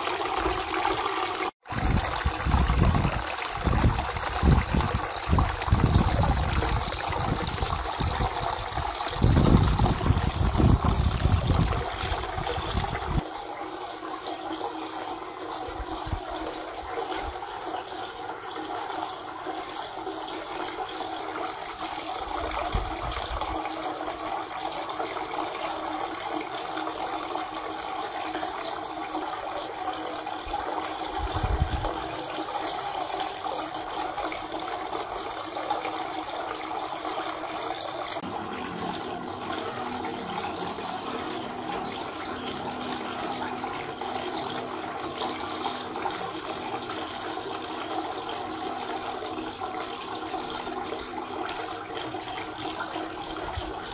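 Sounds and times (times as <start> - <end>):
fountain water splashing: 0.0 - 53.9.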